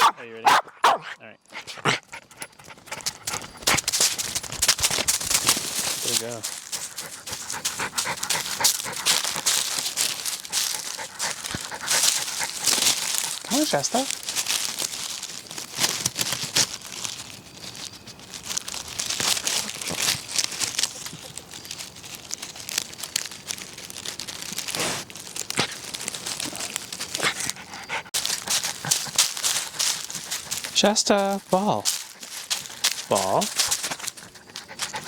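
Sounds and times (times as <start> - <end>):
rustling and crinkling: 1.4 - 35.0.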